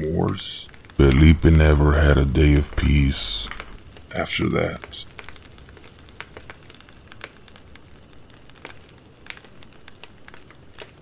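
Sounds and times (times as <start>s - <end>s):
cricket chirping: 0.1s - 10.8s.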